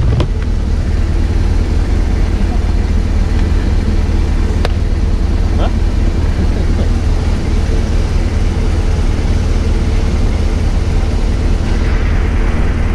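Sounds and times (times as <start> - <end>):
motorcycle engine running: 0.0 - 12.9
road noise: 0.0 - 12.9.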